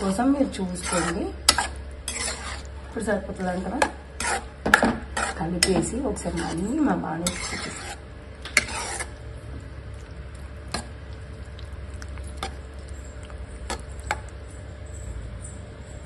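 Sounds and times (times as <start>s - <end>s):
spoon stirring in a pot: 0.0s - 15.5s
low steady hum: 0.0s - 16.0s.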